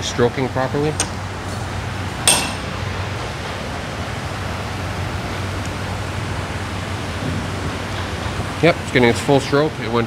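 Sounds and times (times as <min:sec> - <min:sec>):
fan rushing: 0:00.0 - 0:10.0
low steady hum: 0:00.0 - 0:10.0.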